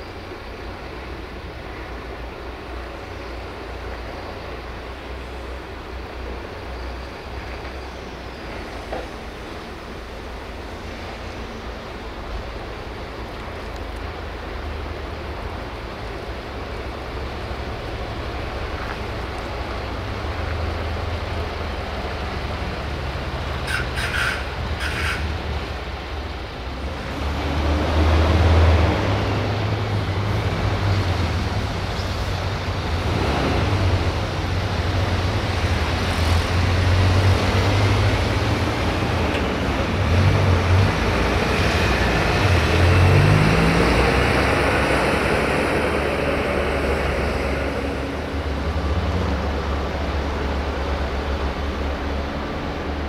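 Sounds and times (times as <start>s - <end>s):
diesel truck engines running: 0.0s - 53.0s.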